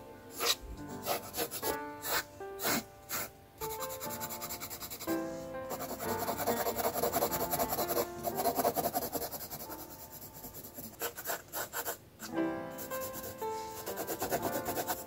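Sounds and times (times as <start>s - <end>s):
soft background music: 0.0s - 15.0s
pencil scratching on paper: 0.3s - 12.0s, 12.8s - 15.0s.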